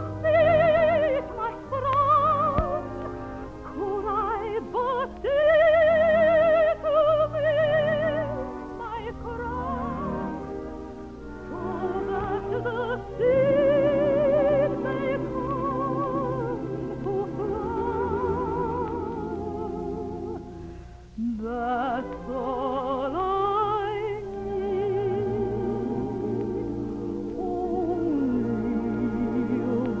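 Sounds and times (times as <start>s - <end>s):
musical accompaniment: 0.0s - 30.0s
soprano singing operatic: 0.0s - 30.0s.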